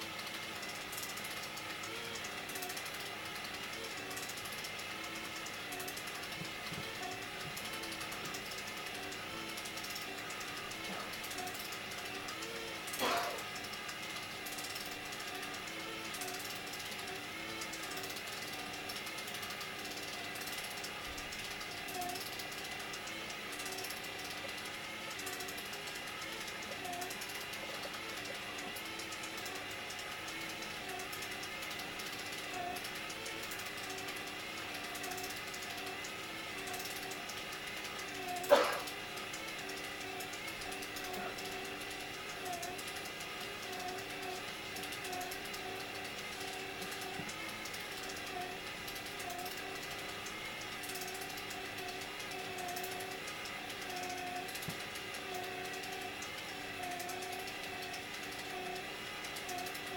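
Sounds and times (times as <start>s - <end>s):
drive motor humming: 0.0s - 59.9s
fast fine ticking: 0.0s - 59.9s
roll sign mechanical whir: 0.0s - 59.9s.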